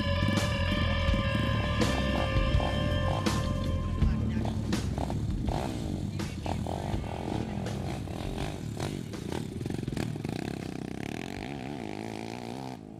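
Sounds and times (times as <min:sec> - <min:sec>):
pit bike engine revving: 0:00.0 - 0:12.9.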